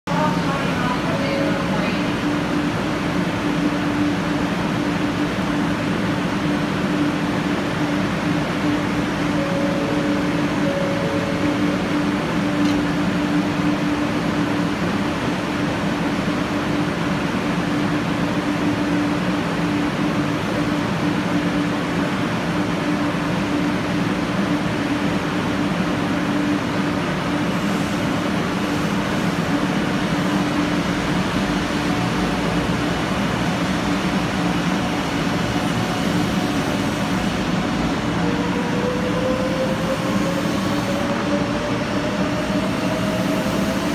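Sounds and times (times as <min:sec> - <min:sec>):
traction inverter whine: 0:00.1 - 0:43.9
train electrical hum: 0:00.1 - 0:43.9.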